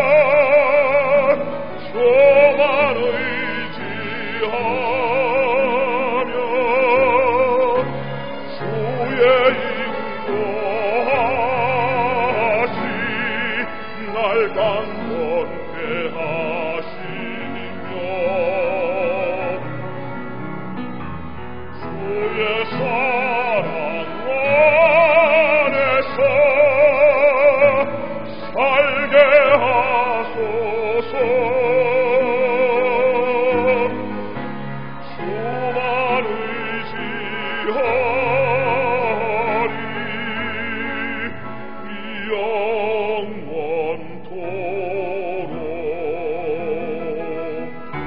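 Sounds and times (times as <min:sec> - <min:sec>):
operatic solo singing: 0:00.0 - 0:19.7, 0:21.7 - 0:48.0
instrumental accompaniment: 0:00.0 - 0:48.0.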